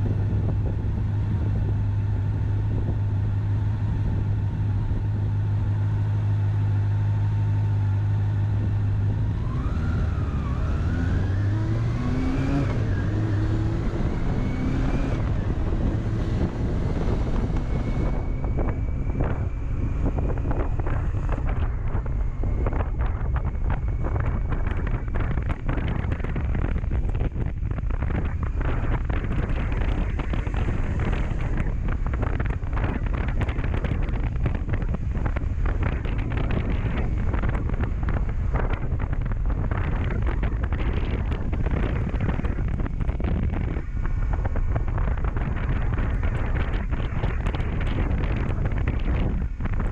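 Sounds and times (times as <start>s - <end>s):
wind buffeting on microphone: 0.0s - 49.9s
motorcycle engine revving: 7.5s - 49.9s.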